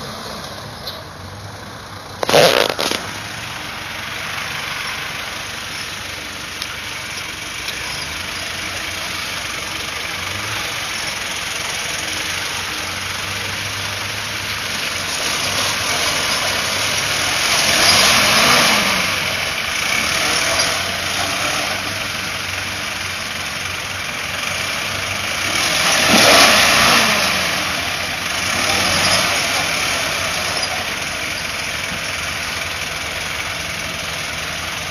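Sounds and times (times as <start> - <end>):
diesel engine revving under load: 0.0 - 34.9.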